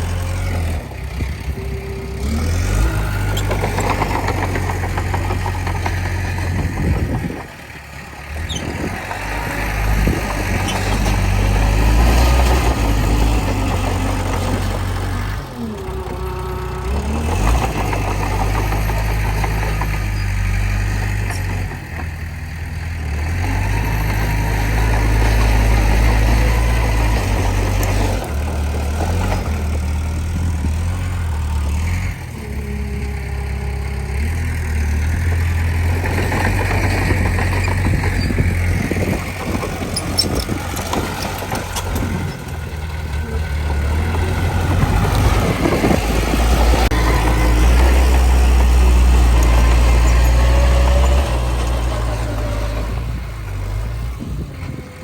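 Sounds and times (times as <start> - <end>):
diesel engine under changing load: 0.0 - 55.0.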